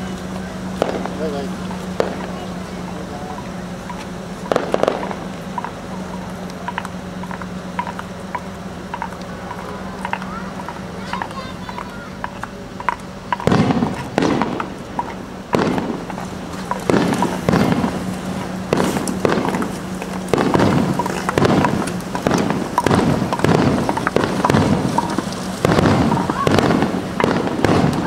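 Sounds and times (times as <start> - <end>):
fireworks booming: 0.0 - 28.0
fireworks crackling: 0.0 - 28.0.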